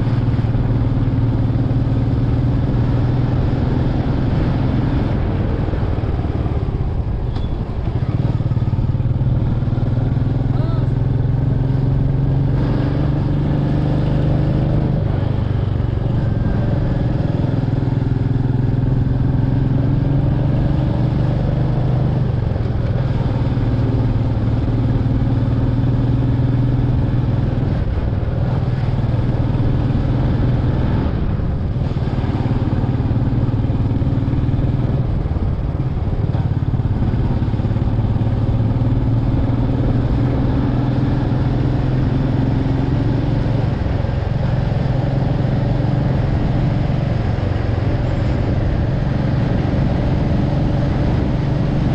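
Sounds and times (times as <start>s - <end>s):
motorcycle engine running: 0.0s - 51.9s
road and wind rumble: 0.0s - 51.9s.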